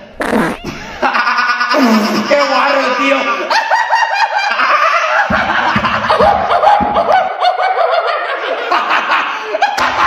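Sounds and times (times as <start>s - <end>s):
young man laughing loudly: 0.7s - 10.0s.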